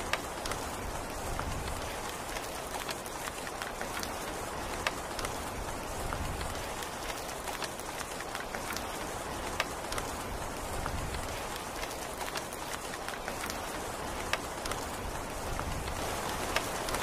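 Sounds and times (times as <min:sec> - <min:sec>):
rain drop taps: 0:00.0 - 0:17.0
steady rain hissing: 0:00.0 - 0:17.0.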